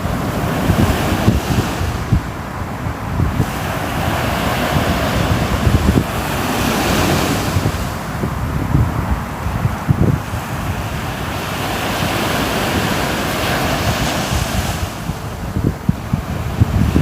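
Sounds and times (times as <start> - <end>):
sea wave washing in: 0.0 - 17.0
wind buffeting microphone: 0.0 - 17.0.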